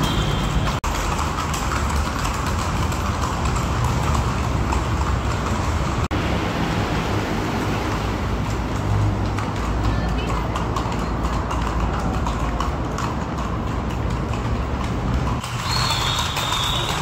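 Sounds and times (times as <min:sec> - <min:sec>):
horse hooves on pavement: 0:00.0 - 0:17.0
street and traffic noise: 0:00.0 - 0:17.0.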